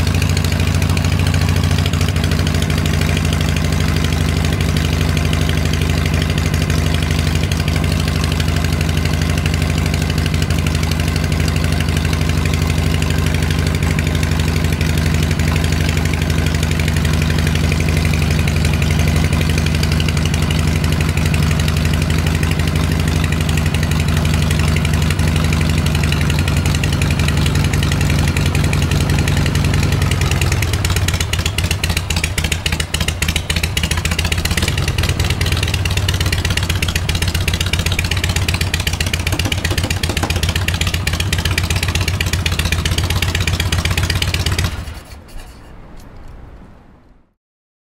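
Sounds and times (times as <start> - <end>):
motorcycle engine idling: 0.0 - 45.1.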